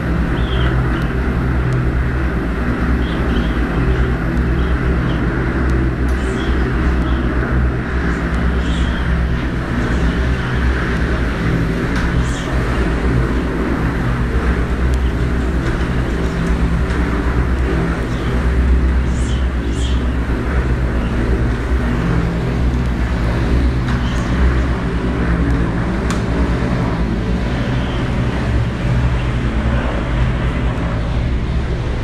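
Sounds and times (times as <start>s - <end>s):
helicopter rotor and turbine noise: 0.0s - 32.0s.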